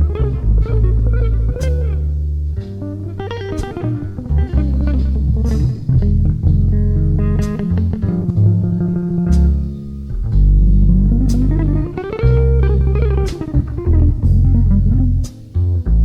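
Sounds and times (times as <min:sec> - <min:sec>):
bass guitar: 0:00.0 - 0:16.0
electric guitar melody: 0:00.0 - 0:16.0
drums: 0:00.1 - 0:08.0, 0:08.6 - 0:16.0.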